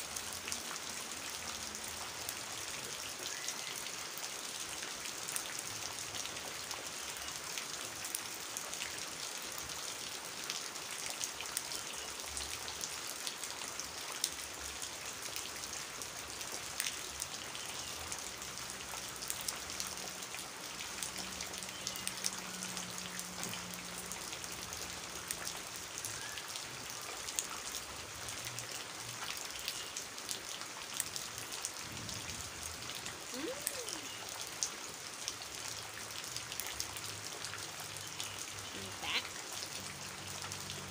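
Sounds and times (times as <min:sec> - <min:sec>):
rain drops splashing in puddle: 0:00.0 - 0:40.9.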